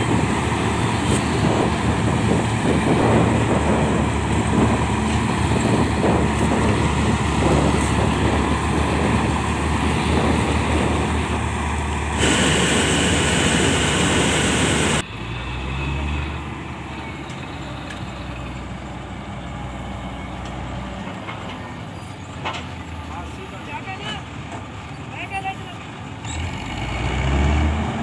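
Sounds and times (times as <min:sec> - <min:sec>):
distant engine hum: 0:00.0 - 0:22.8
combine harvester running: 0:00.0 - 0:28.0.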